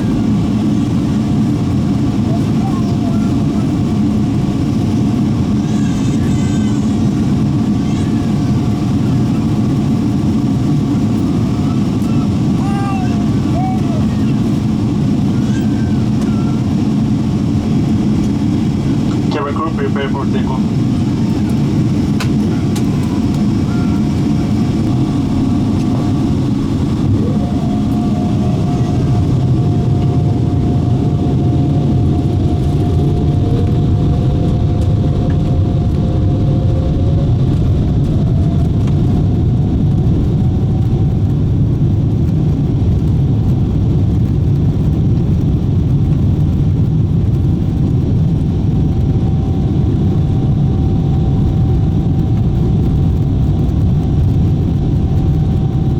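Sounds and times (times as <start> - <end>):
jet engines rumbling and whining: 0.0 - 55.9.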